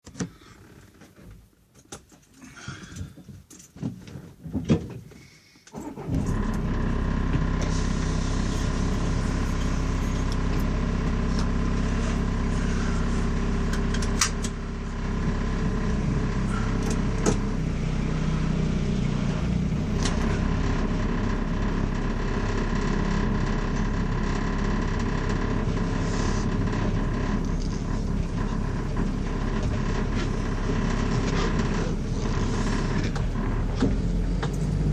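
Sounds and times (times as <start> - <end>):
car engine running: 5.8 - 34.9.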